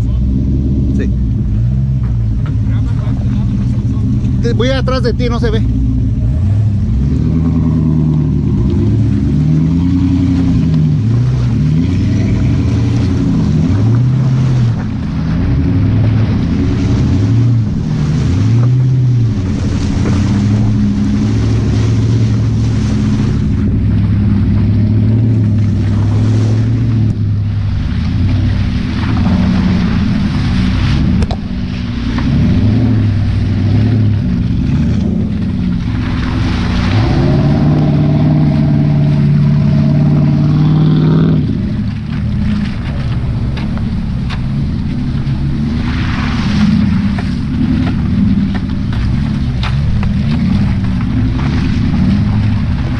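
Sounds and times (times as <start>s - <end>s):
engine revving: 0.0s - 52.9s
mud and water rushing under tyres: 0.0s - 52.9s.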